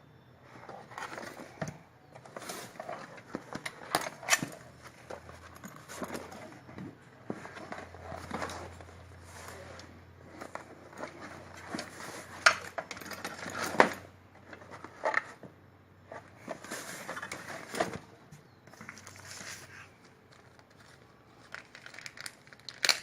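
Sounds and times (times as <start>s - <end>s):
soft case rustling: 0.6s - 22.3s.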